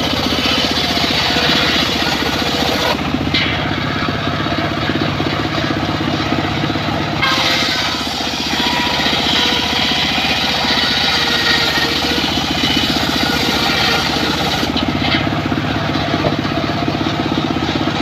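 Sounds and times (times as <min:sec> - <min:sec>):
circular saw engine running: 0:00.0 - 0:18.0.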